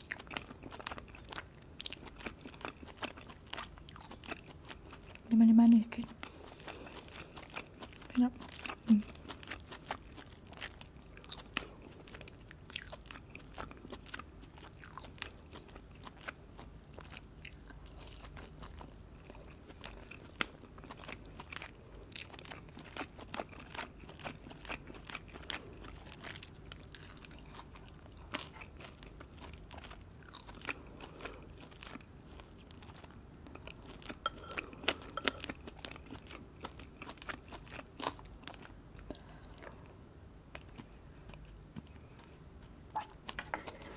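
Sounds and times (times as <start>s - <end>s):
chewing with sharp crunches: 0.0s - 43.9s.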